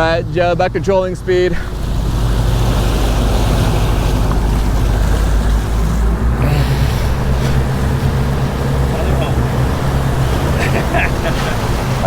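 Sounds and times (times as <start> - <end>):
boat engines droning: 0.0 - 12.0
water noise: 0.0 - 12.0
wind: 0.0 - 12.0.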